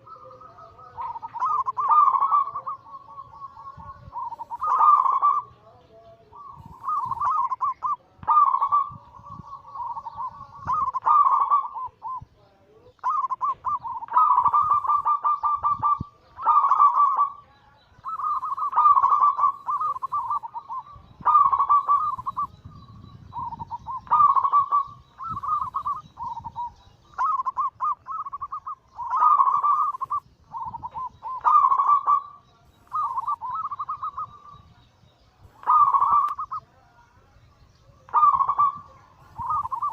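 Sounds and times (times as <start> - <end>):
dove cooing: 0.0 - 37.0, 37.9 - 39.9.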